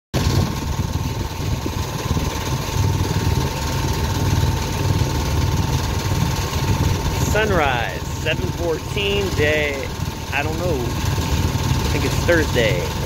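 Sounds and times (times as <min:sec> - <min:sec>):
boat engine droning: 0:00.2 - 0:13.0
steady whine: 0:00.2 - 0:13.0.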